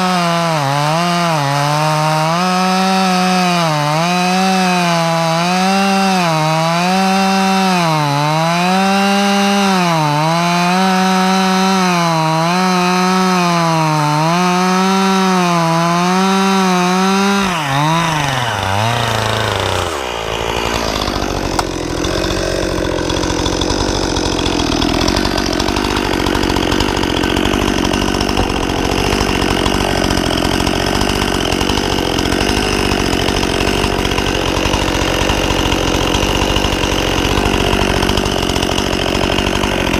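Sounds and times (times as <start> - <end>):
chainsaw cutting into log: 0.0 - 39.9.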